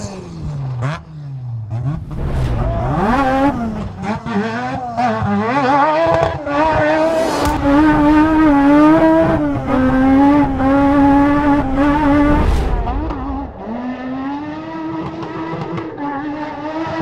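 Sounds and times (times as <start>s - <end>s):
race truck engine screaming: 1.7s - 17.0s.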